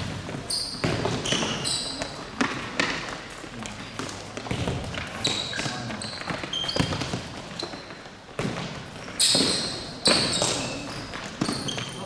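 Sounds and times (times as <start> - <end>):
ball bouncing on hard floor: 0.0 - 12.0
shoes squeaking on court: 0.0 - 12.0.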